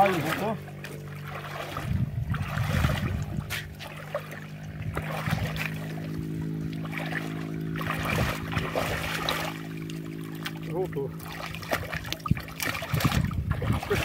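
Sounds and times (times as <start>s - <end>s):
low hum: 0.0s - 14.0s
muddy water sloshing and splashing: 0.0s - 14.0s.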